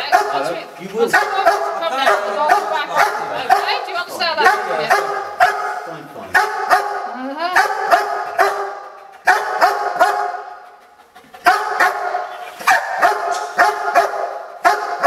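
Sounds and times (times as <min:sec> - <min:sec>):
dog barking sharply: 0:00.0 - 0:03.8, 0:04.4 - 0:10.5, 0:11.4 - 0:15.0.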